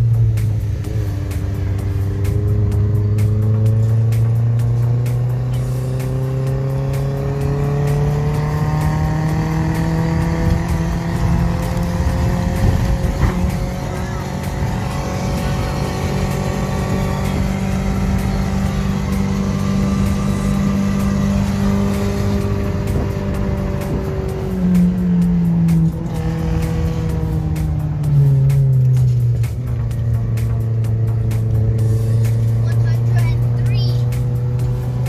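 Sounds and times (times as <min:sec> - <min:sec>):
van engine accelerating: 0:00.0 - 0:35.0.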